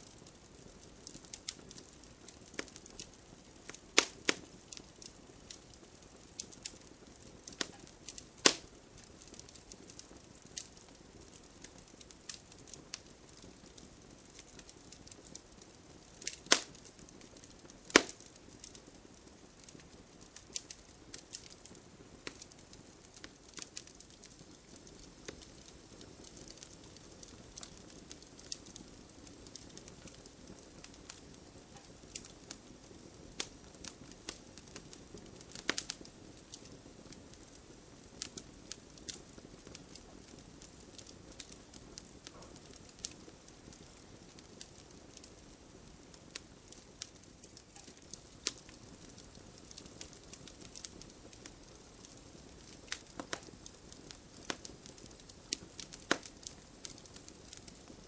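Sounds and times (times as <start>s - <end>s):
faint steady hiss: 0.0s - 58.0s
sharp loud snaps of fire: 0.0s - 58.0s
wood fire crackling: 0.0s - 58.0s.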